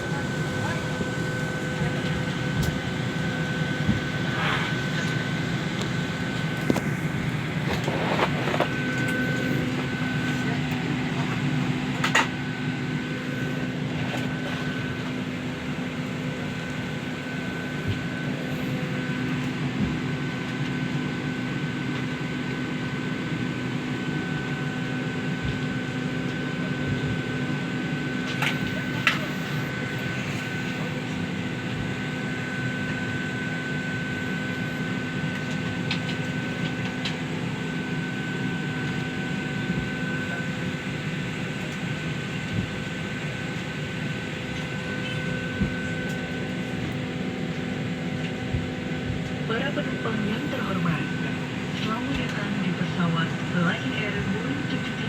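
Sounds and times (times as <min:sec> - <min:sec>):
airliner cabin hum and hiss: 0:00.0 - 0:55.0
faint steady whine: 0:00.0 - 0:55.0.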